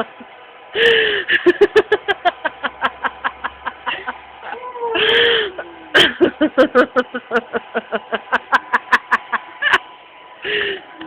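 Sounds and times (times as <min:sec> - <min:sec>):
person laughing: 0:00.0 - 0:09.9.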